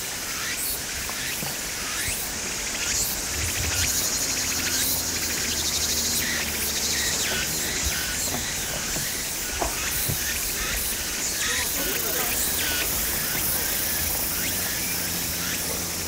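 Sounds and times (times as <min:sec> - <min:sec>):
birds chirping: 0:00.0 - 0:16.0
cicadas buzzing: 0:00.0 - 0:16.0.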